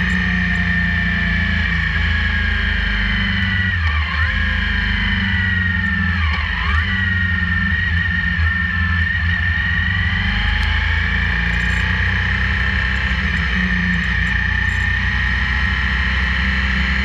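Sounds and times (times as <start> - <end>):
high whine: 0.0 - 17.0
motorcycle engine running: 0.0 - 17.0
road and wind noise: 0.0 - 17.0.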